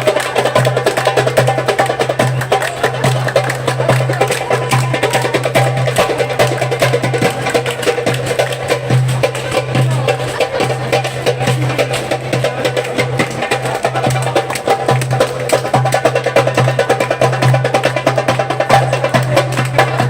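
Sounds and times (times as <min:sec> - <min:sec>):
goblet drum solo: 0:00.0 - 0:20.0.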